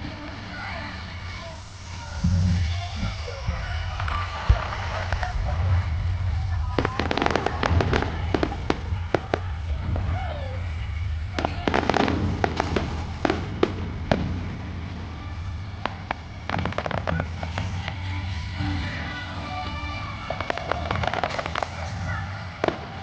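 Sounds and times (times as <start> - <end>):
steady low rumble: 0.0 - 23.0
fireworks bangs and pops: 2.2 - 18.3, 19.7 - 23.0.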